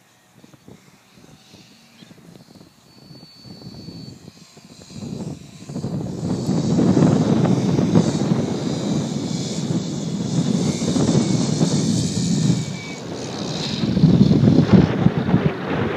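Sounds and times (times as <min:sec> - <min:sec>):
model plane motor and propeller: 0:00.0 - 0:15.9.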